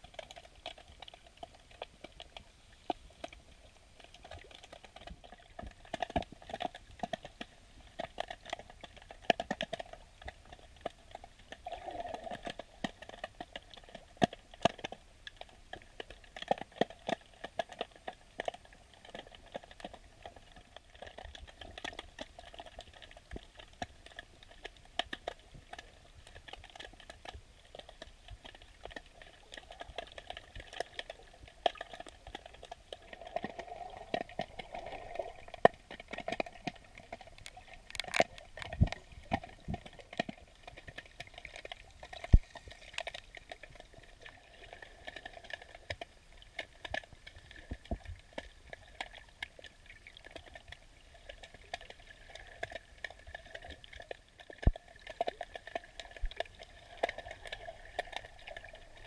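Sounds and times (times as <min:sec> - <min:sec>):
underwater clicking and crackling: 0:00.0 - 0:59.0.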